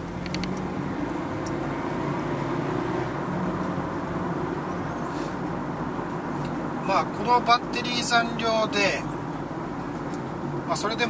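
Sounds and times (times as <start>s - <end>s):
car cabin engine drone: 0.0s - 11.0s.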